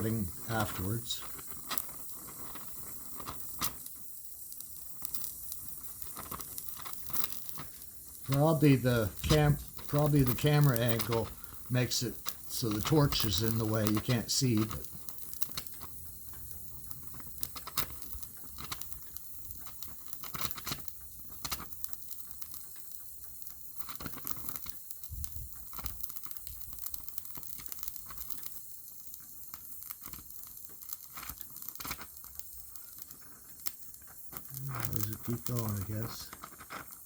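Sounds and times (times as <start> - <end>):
welding torch hissing and crackling: 0.0 - 37.0.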